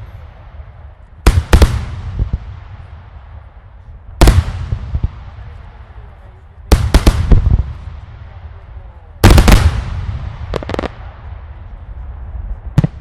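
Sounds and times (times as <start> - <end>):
fireworks bangs with rumbling echo: 0.0 - 13.0.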